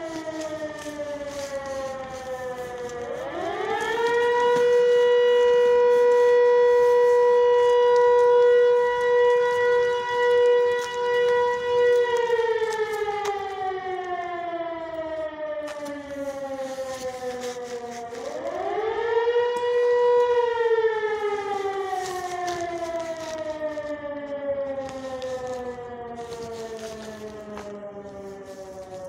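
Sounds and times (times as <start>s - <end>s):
air-raid siren wailing: 0.0s - 29.0s.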